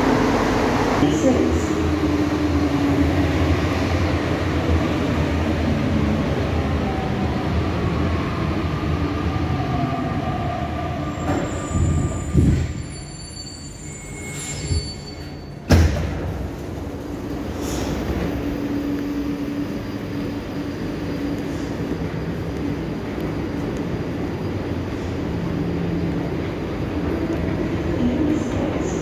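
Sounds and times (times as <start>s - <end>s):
metro train braking: 0.0s - 29.0s.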